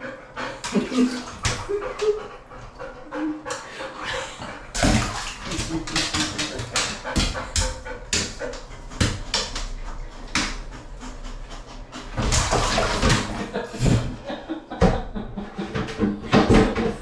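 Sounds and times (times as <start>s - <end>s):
dog panting: 0.0s - 14.3s.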